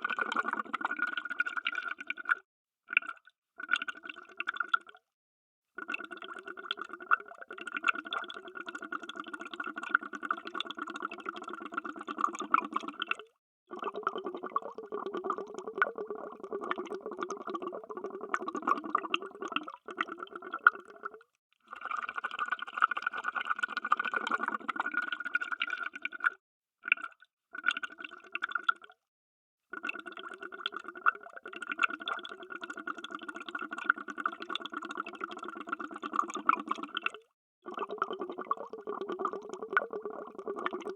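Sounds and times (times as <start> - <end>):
underwater bubbles gurgling: 0.0 - 2.4, 5.8 - 26.3, 29.8 - 40.9.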